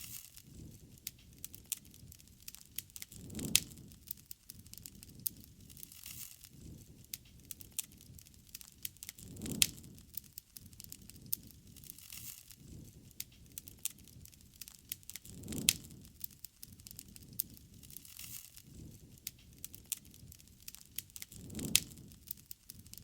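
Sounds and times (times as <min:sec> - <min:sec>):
low rustling noise: 0:00.0 - 0:23.0
wood fire crackling: 0:00.0 - 0:23.0.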